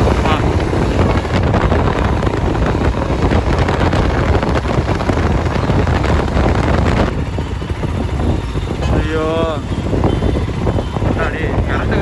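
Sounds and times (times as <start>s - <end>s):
motorcycle engine at road speed: 0.0s - 12.0s
wind buffeting microphone: 0.0s - 12.0s.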